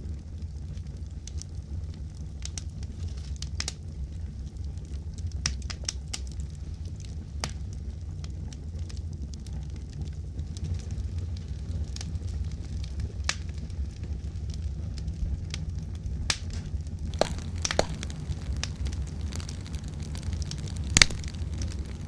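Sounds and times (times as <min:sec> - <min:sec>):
campfire low rumble: 0:00.0 - 0:22.0
fire crackles and pops: 0:00.0 - 0:22.0.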